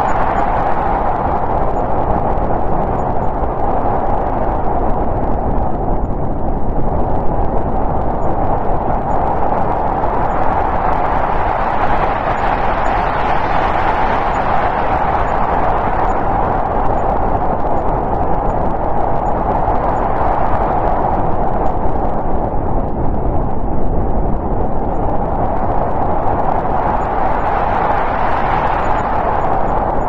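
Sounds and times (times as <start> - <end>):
snowstorm wind rushing: 0.0 - 30.0.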